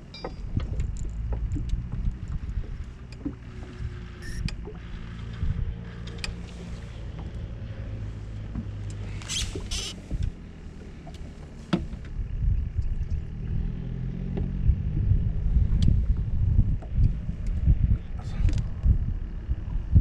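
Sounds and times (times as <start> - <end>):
boat motor humming: 0.0 - 20.0
wind buffeting microphone: 0.4 - 10.7, 11.9 - 20.0.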